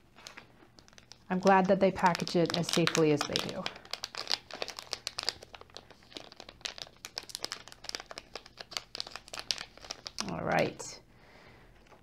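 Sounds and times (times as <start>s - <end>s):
plastic pouch crinkling: 0.0s - 10.4s.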